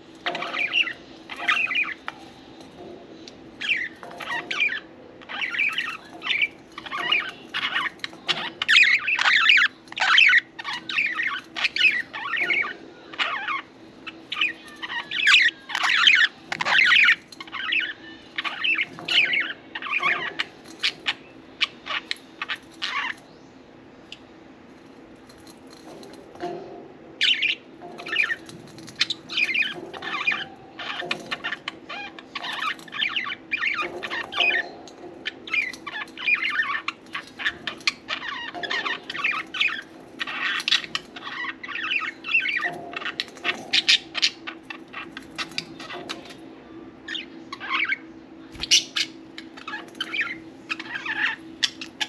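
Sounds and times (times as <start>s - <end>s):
budgerigars chirping and chattering: 0.0s - 23.4s, 25.3s - 46.4s, 47.0s - 52.0s
faint steady hum: 0.0s - 52.0s.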